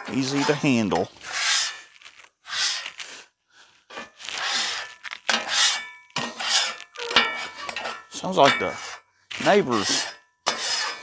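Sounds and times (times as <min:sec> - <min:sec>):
metal scraper scraping griddle: 0:00.0 - 0:03.0, 0:03.9 - 0:11.0.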